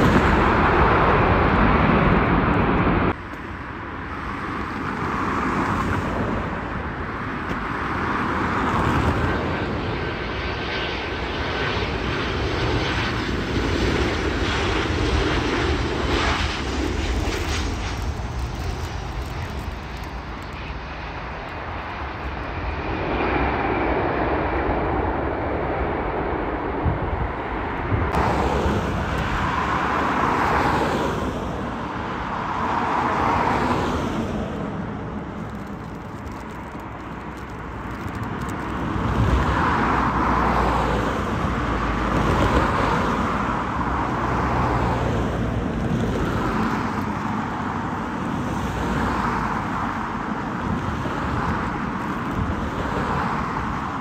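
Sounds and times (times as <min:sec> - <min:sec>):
jet airliner engines: 0:00.0 - 0:54.0.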